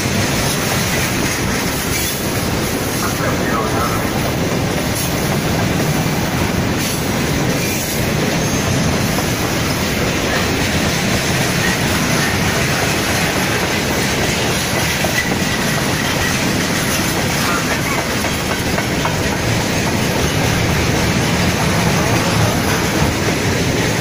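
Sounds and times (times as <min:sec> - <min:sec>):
freight train wheels rolling: 0:00.0 - 0:24.0.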